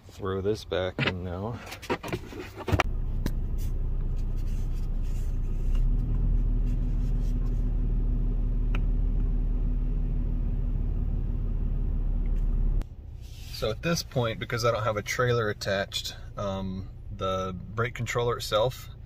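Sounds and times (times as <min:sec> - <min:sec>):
car engine rumbling from inside: 0:00.2 - 0:19.0.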